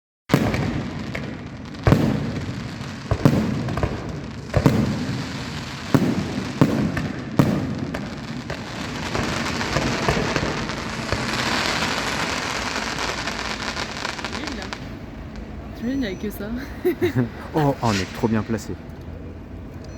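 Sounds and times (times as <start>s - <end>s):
fireworks crackling: 0.3s - 19.1s
fireworks booming: 0.3s - 19.4s.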